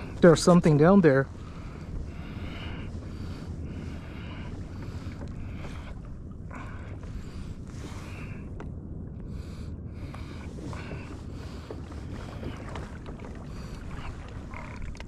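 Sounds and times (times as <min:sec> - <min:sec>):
water sloshing around kayak: 0:00.0 - 0:15.0
wind buffeting microphone: 0:00.0 - 0:15.0.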